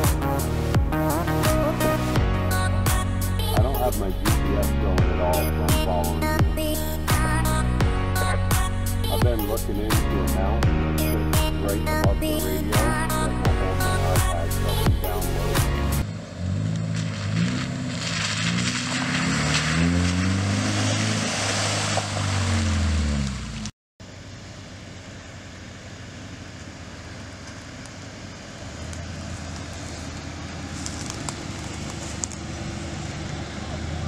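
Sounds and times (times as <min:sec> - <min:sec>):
car engine on dirt road: 0:00.0 - 0:34.0.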